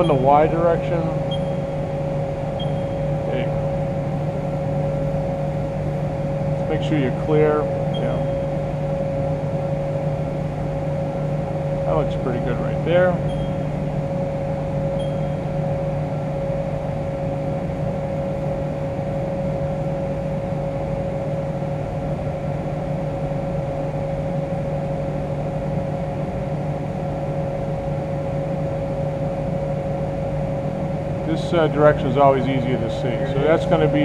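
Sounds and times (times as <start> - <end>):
milling machine hum and whine: 0.0 - 34.0.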